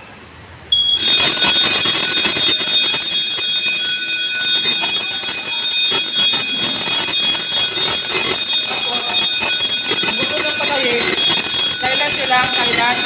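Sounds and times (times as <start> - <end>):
fire alarm bell ringing: 0.7 - 13.0.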